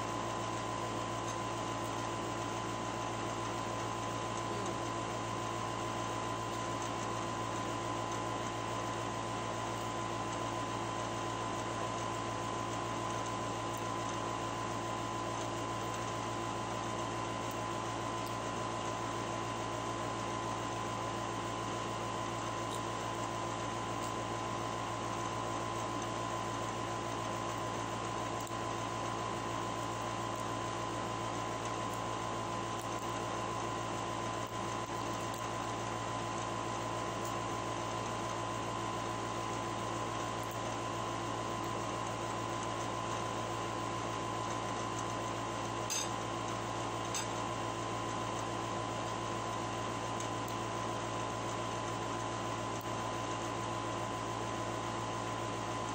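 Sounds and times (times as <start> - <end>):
fan hum and hiss: 0.0 - 55.9
mid-pitched whine: 0.0 - 55.9.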